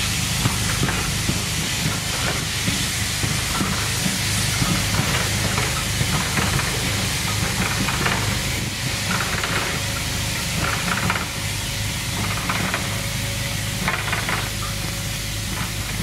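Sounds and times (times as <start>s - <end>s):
hiss: 0.0s - 16.0s
train passing with low drone: 0.0s - 16.0s.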